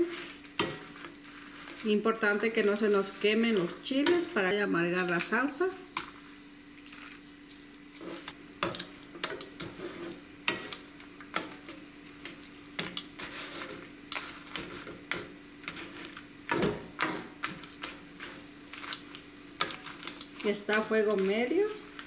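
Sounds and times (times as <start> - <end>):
chiles crackling in oil: 0.0 - 22.0
steady low hum: 0.0 - 22.0.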